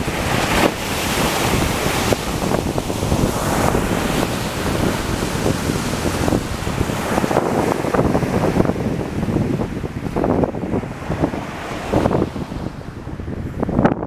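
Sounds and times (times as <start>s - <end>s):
surf breaking: 0.0s - 13.9s
wind buffeting microphone: 0.0s - 14.0s.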